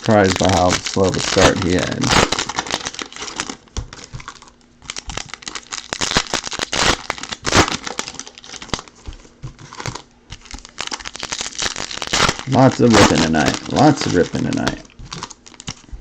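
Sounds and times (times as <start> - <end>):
foil wrappers crinkling and tearing: 0.0 - 16.0.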